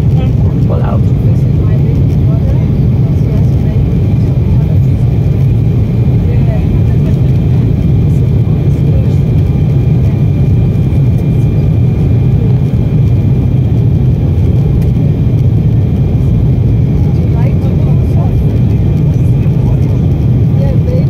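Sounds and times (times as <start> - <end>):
jet cabin low rumble: 0.0 - 21.0.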